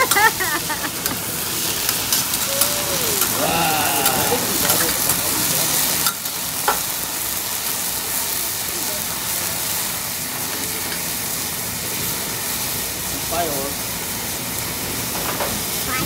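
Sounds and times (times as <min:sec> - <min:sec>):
food sizzling on a griddle: 0:00.0 - 0:16.0.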